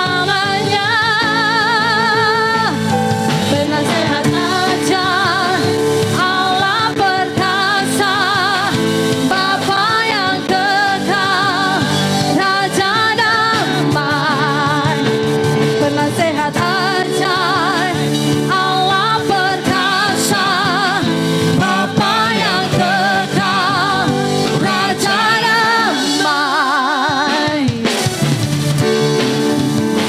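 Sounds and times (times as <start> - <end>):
person singing with vibrato: 0.0 - 28.1
sustained instrumental backing: 0.0 - 30.0.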